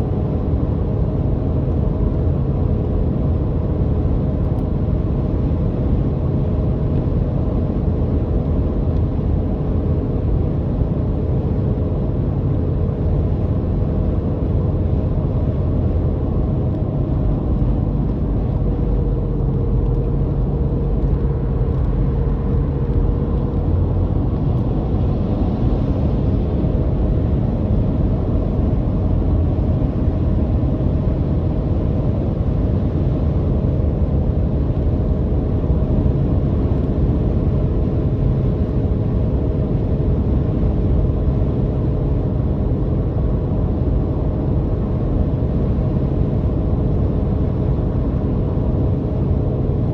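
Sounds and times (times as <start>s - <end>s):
car driving rumble: 0.0s - 49.9s.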